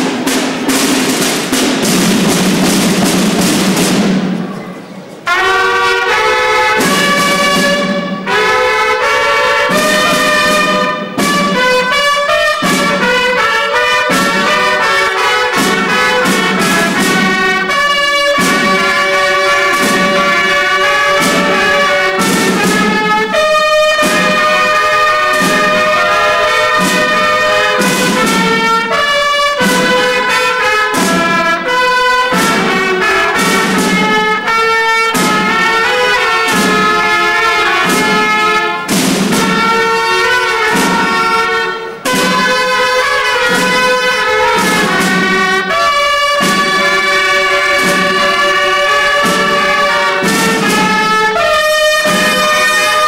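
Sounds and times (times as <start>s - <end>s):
trumpets playing in harmony: 0.0s - 53.0s.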